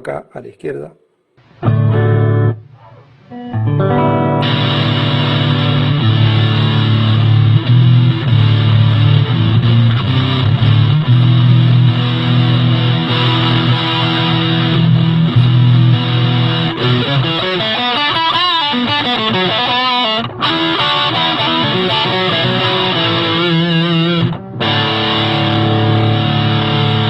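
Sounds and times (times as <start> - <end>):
distorted electric guitar chords: 1.4 - 27.0.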